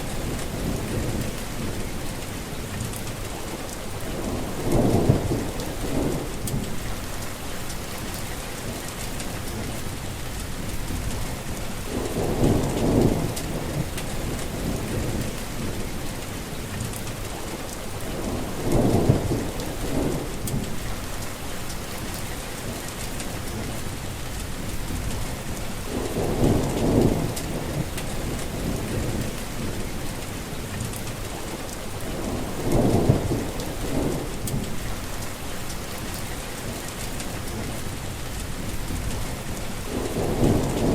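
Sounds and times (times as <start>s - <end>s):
thunder rumbling: 0.0s - 2.5s, 3.1s - 40.9s
heavy rain: 0.0s - 40.9s.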